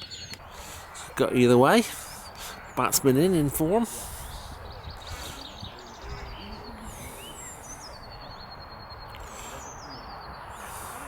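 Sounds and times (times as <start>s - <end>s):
birds chirping and trilling: 0.0s - 11.0s
low outdoor background noise: 0.0s - 11.0s.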